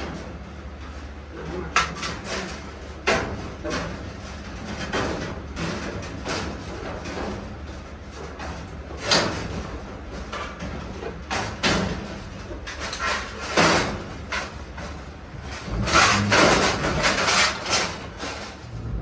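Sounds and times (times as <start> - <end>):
sheet metal panels banging: 1.4 - 18.8.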